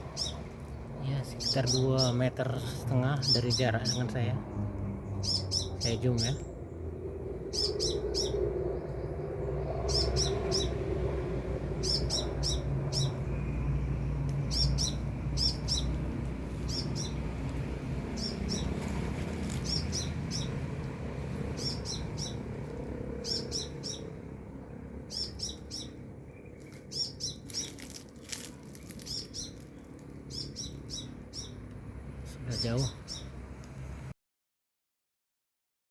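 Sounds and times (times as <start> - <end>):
low background rumble: 0.0 - 34.1.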